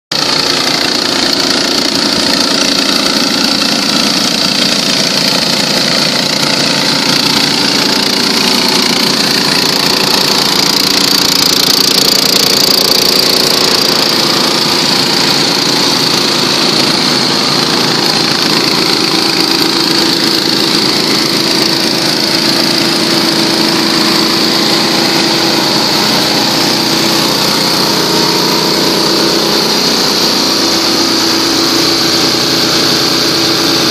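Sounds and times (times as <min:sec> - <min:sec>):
petrol water pumps running: 0:00.1 - 0:33.9.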